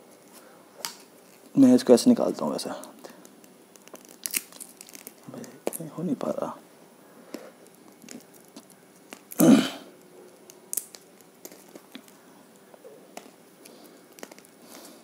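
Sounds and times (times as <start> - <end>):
dry pods cracking: 0.0 - 15.0.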